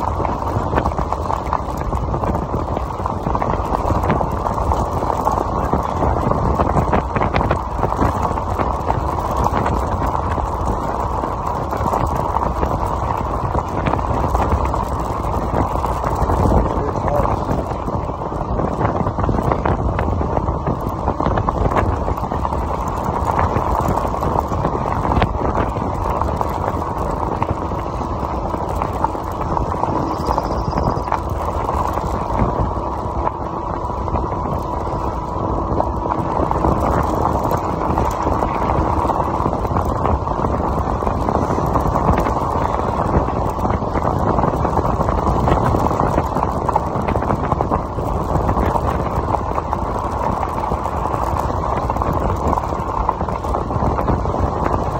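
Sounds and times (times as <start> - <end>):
bike tyres rolling on gravel: 0.0 - 54.9
wind on microphone: 0.0 - 54.9.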